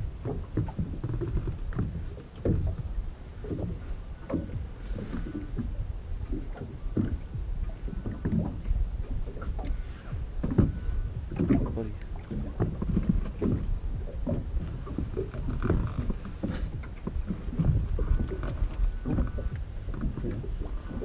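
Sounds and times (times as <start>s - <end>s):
small waves slapping boat hull: 0.0s - 21.0s
steady low rumble: 0.0s - 21.0s.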